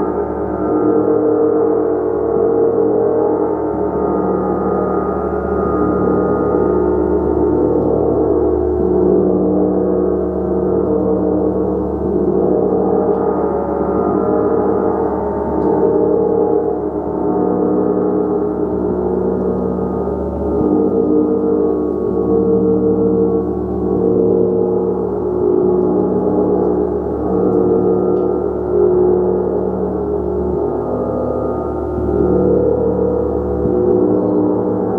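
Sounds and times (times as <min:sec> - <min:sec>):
gong sustained tones: 0:00.0 - 0:34.9.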